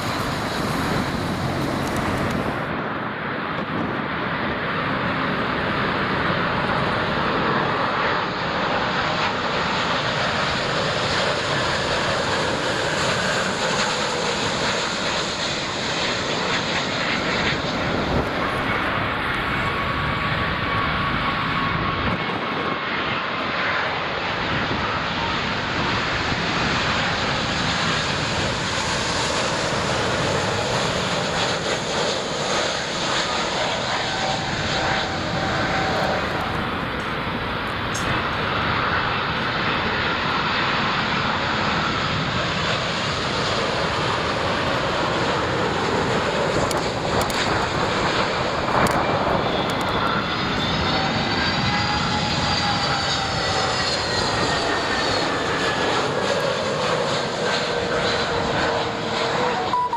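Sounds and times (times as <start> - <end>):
jet engine whine: 0.0 - 59.9
jet engines rushing: 0.0 - 59.9.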